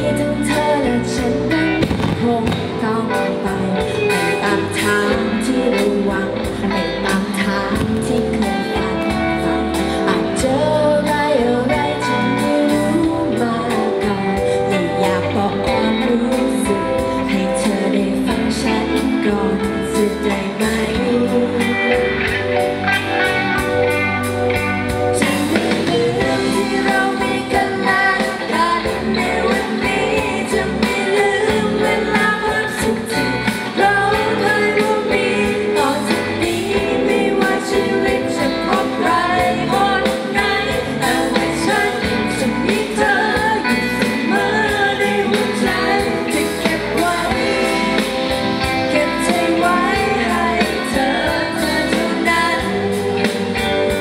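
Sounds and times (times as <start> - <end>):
band playing pop ballad: 0.0 - 54.0
person singing: 0.0 - 54.0.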